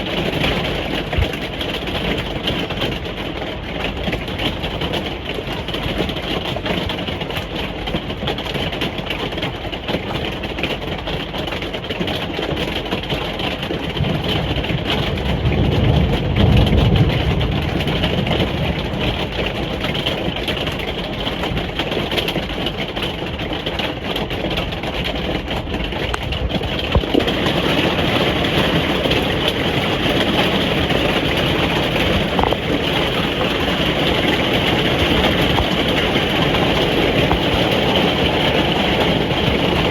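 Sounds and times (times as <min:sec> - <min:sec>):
rain on a caravan roof: 0:00.0 - 0:39.9.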